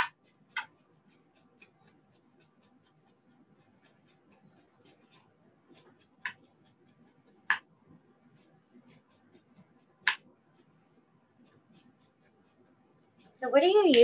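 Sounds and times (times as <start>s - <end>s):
spoon scraping ginger skin: 0.0s - 14.0s.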